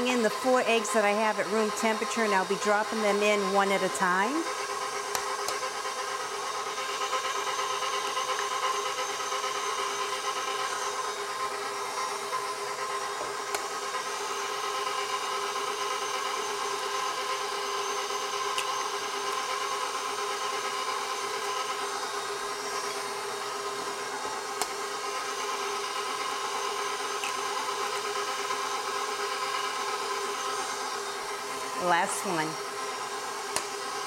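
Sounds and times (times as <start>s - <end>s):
stand mixer running: 0.0s - 34.0s.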